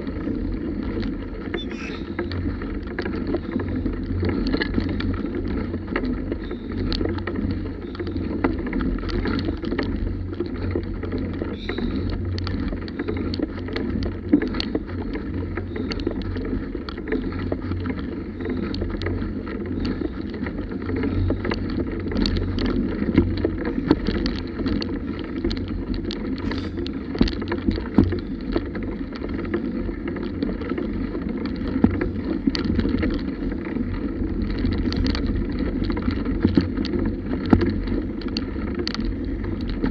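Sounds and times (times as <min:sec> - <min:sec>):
bicycle tyres rumbling on dirt: 0:00.0 - 0:39.9
small rattles and knocks: 0:00.0 - 0:39.9.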